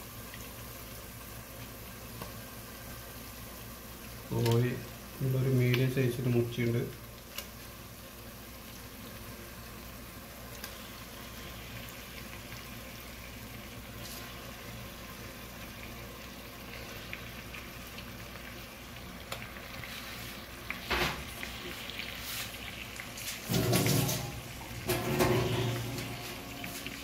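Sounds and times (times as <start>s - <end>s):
masala sizzling in a pot: 0.0s - 27.0s.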